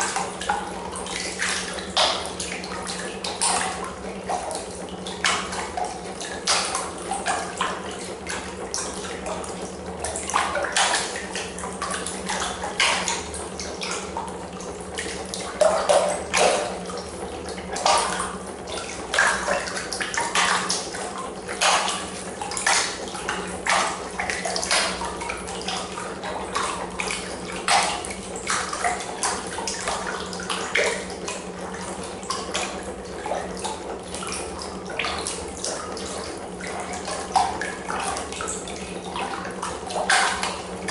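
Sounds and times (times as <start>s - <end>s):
low steady hum: 0.0s - 40.9s
water splashing in plastic tub: 0.0s - 40.9s.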